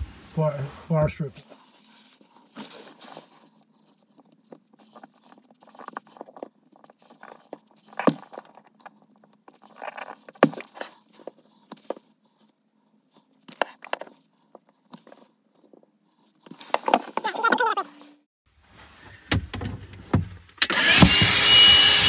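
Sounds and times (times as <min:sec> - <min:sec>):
wires rustling: 0:00.0 - 0:17.8.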